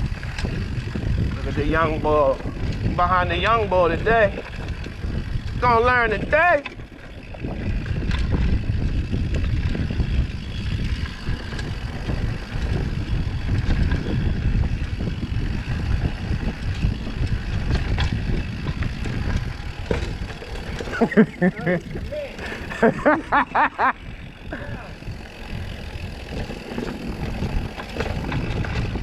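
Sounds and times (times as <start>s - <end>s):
bike clicks and rattles: 0.0s - 29.0s
bike tyres rumbling on dirt: 0.0s - 29.0s
wind on microphone: 0.0s - 29.0s.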